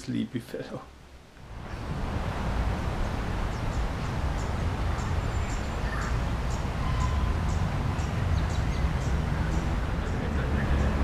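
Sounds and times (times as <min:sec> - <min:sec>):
wind rumbling on microphone: 0:01.4 - 0:11.0.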